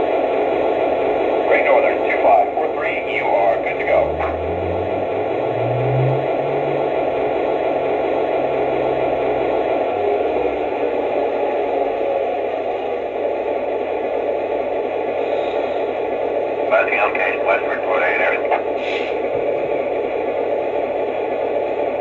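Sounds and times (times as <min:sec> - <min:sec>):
diesel locomotive engine hum: 0:00.0 - 0:22.0.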